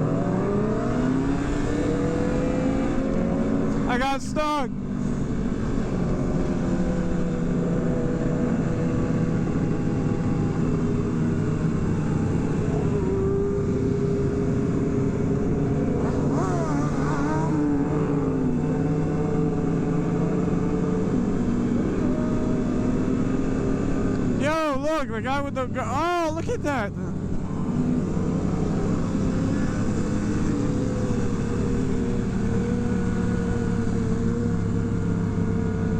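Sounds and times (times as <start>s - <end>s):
motorcycle engines running: 0.0s - 35.9s
motorcycle revving: 0.0s - 35.9s.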